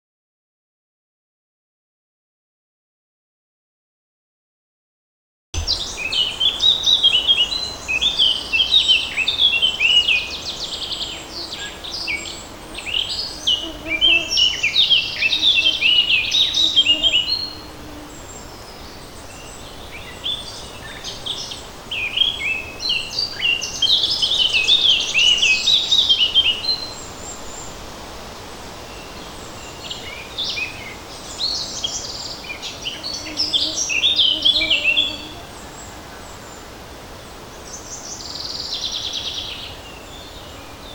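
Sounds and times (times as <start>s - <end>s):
faint steady hiss: 5.6s - 40.9s
songbirds chirping: 5.6s - 40.9s.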